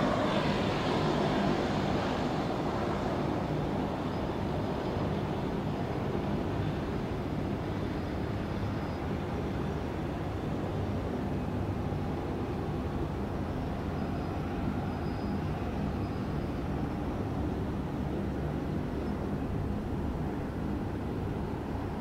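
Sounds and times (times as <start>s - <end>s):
aircraft and machinery rumble: 0.0s - 22.0s
faint high whine: 0.0s - 22.0s.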